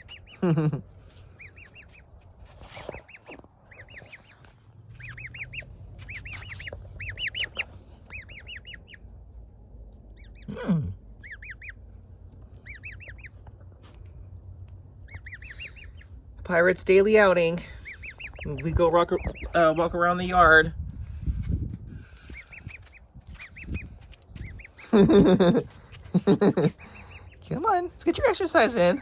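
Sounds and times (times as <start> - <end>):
gosling peeping: 0.0 - 9.3, 10.0 - 29.0.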